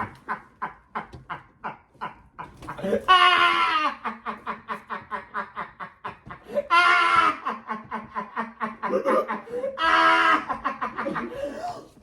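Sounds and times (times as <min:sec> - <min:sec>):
person laughing hard: 0:00.0 - 0:12.0.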